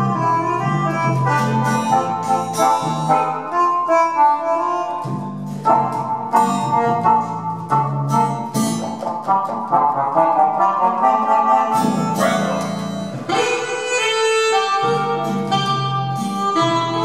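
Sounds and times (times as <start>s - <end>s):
accordion playing: 0.0s - 17.0s.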